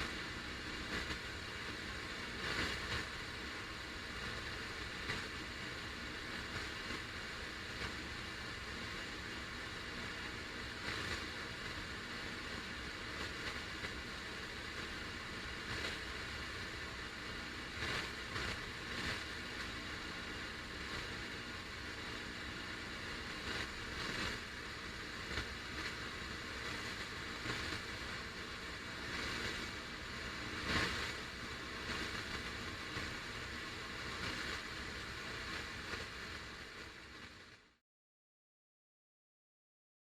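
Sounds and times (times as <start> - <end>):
radio static hiss: 0.0 - 37.8
static crackles: 0.0 - 37.8.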